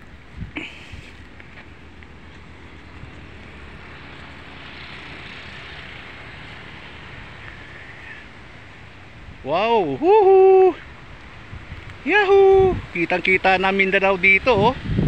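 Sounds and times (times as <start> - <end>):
wind buffeting microphone: 0.0 - 4.5, 7.2 - 15.0.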